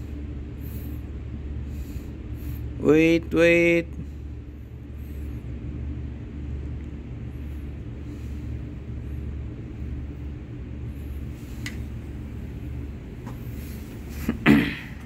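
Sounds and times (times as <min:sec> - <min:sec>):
boom lift engine droning: 0:00.0 - 0:15.0.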